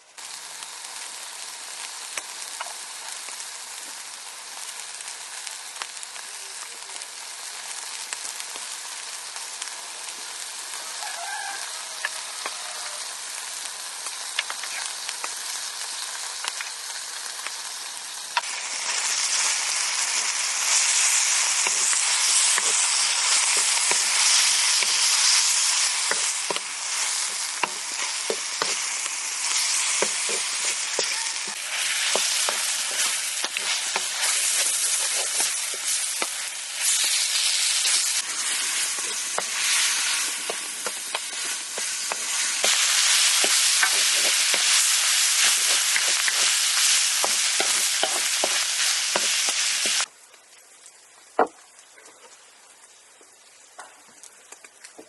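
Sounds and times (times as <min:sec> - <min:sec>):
food sizzling in hot fat: 0:00.0 - 0:55.0.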